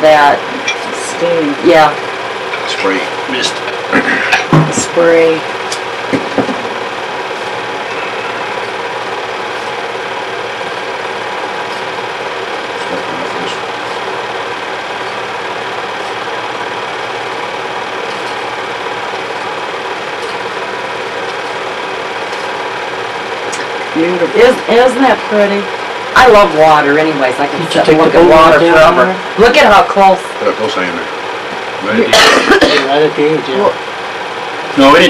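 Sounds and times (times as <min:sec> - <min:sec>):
film projector whirring and clattering: 0:00.0 - 0:35.0.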